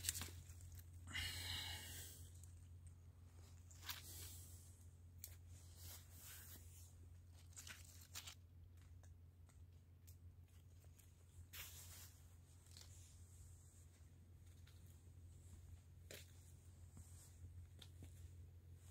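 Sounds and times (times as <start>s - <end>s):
low steady hum: 0.0s - 18.9s
faint crackles and rustles: 2.3s - 18.9s.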